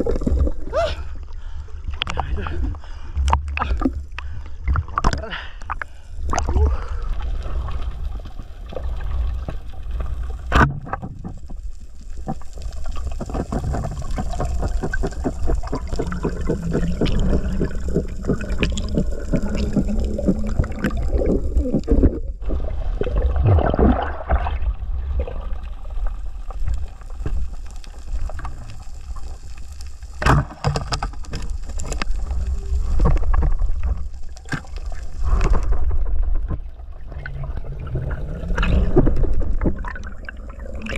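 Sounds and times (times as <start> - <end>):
underwater rumble with gurgling: 0.0 - 40.9.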